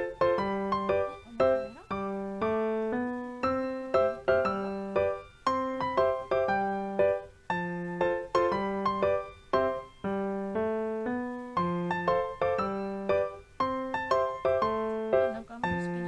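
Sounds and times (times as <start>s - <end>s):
keyboard playing piano melody: 0.0s - 16.0s.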